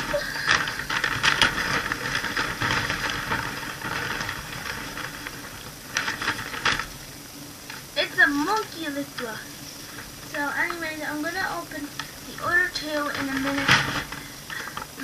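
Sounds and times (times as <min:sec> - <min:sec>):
packaging crinkling and rustling: 0:00.0 - 0:15.0
sharp plastic crackles: 0:00.0 - 0:15.0.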